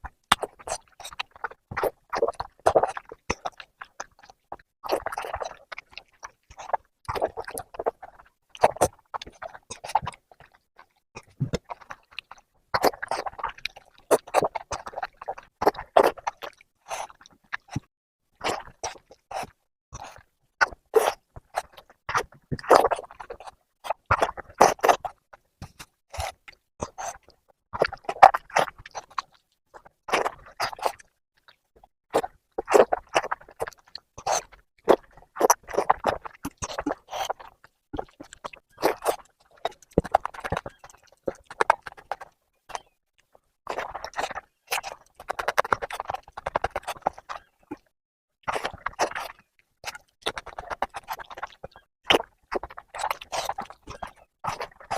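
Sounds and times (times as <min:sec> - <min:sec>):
wet chewing and lip-smacking: 0:00.0 - 0:54.9.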